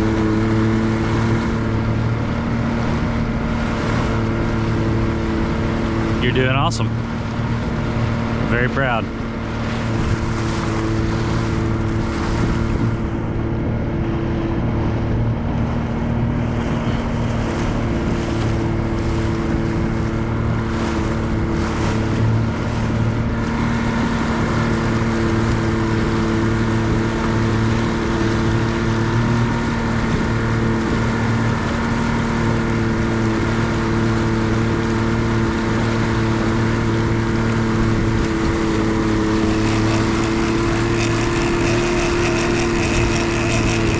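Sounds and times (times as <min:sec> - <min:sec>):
outboard motor drone: 0:00.0 - 0:43.9
wind and water rushing: 0:00.0 - 0:43.9.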